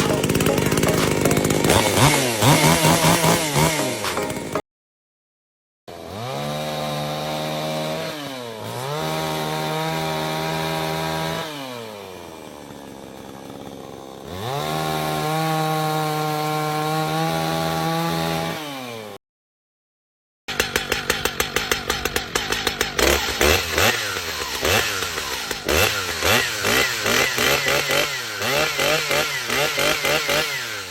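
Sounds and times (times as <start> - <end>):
chainsaw engine revving: 0.0 - 4.6, 5.9 - 19.2, 20.5 - 30.9.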